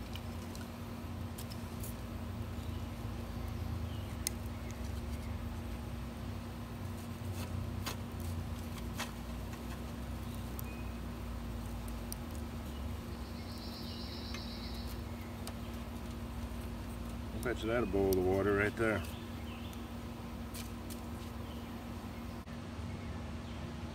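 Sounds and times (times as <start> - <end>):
wood fire crackling: 0.0 - 22.5.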